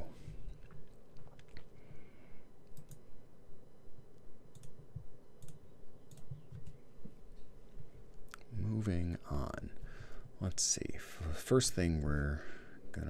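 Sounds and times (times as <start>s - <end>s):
faint low background hum: 0.0s - 13.0s.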